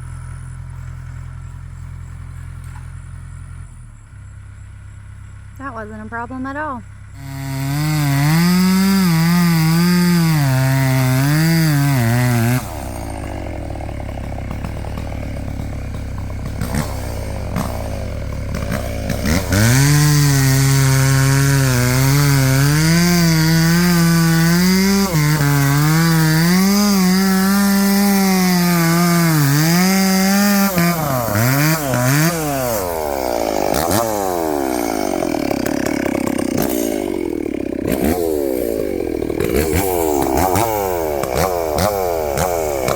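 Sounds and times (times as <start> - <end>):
engine revving under load: 0.0 - 42.9.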